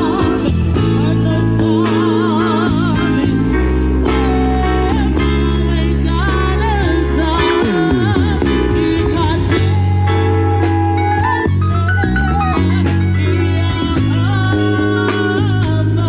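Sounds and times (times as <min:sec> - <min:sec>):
bass line: 0:00.0 - 0:16.0
electronic keyboard chords: 0:00.0 - 0:16.0.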